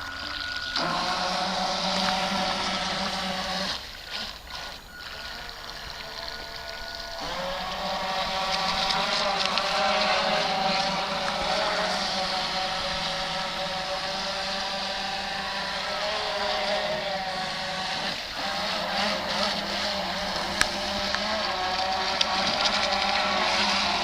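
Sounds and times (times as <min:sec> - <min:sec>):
electric boat motor whining: 0:00.0 - 0:24.0.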